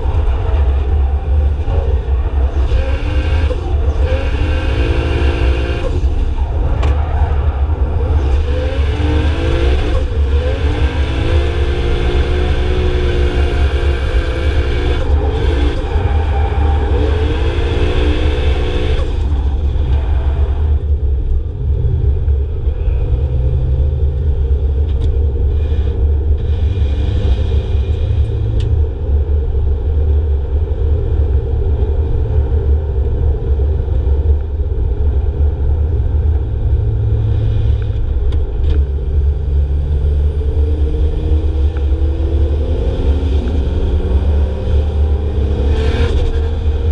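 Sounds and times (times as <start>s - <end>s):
car engines revving: 0.0s - 46.9s
steady low rumble: 0.0s - 46.9s.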